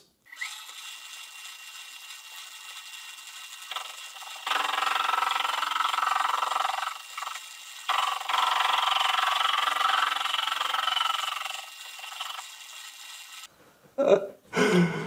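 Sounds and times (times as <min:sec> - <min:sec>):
tool bit scraping steel bar: 0:00.3 - 0:13.5
metal lathe spindle humming: 0:00.4 - 0:13.5.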